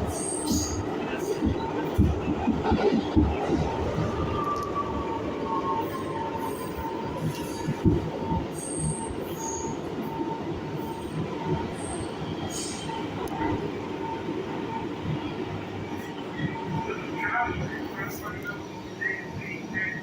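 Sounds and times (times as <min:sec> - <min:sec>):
subway train rumble and whine: 0:00.0 - 0:20.0.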